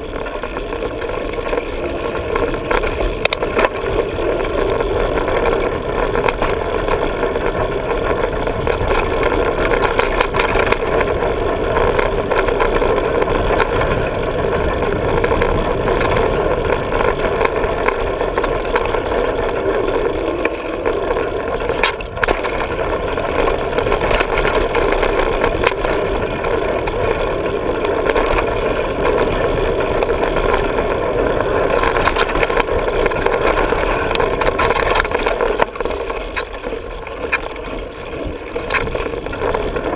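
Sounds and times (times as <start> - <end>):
bike clicks and rattles: 0.0 - 39.9
wind and tyre noise: 0.0 - 39.9.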